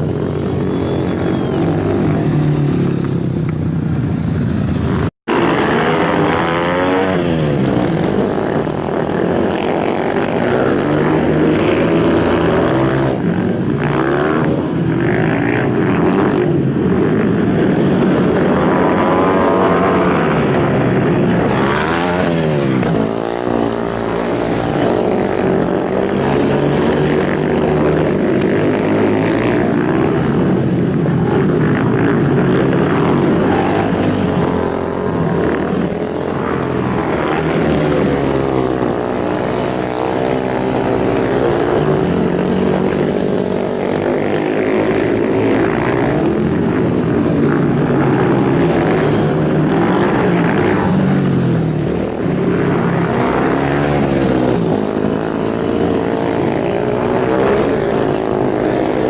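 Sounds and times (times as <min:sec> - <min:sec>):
racing motorbike engines at high revs: 0:00.0 - 0:59.0.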